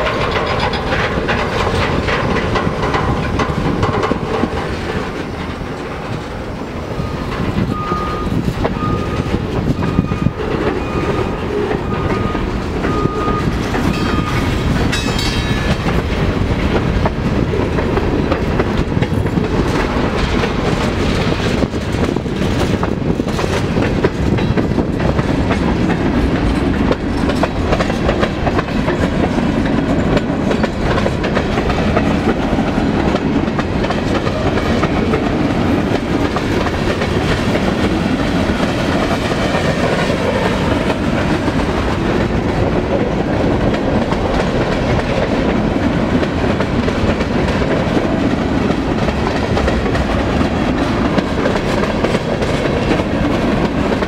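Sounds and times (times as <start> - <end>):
freight train rumble: 0.0 - 54.0
wheels clicking over rail joints: 0.0 - 54.0.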